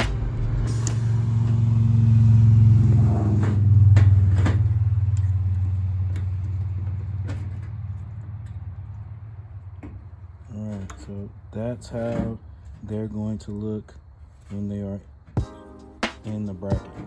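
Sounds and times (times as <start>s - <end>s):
passing vehicle rumble: 0.0s - 13.8s.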